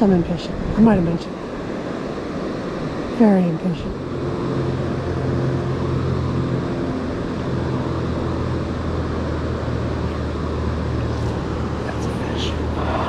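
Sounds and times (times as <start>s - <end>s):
low engine-like hum: 0.0s - 13.0s
river water rushing: 0.0s - 13.0s.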